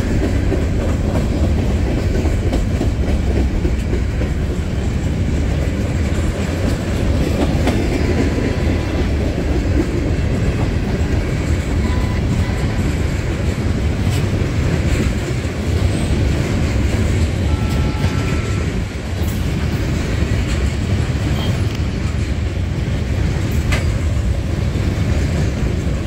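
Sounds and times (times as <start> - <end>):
train wheels rumbling on rail: 0.0 - 26.0
wheels clacking over rail joints: 0.0 - 26.0.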